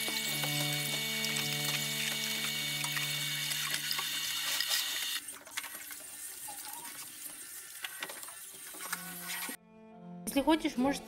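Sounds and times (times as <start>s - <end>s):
tap water running into sink: 0.0s - 9.6s.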